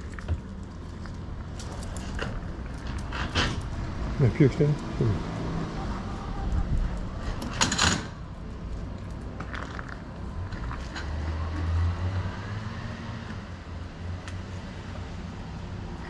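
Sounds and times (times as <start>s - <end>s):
road vehicle passing: 0.0s - 16.0s.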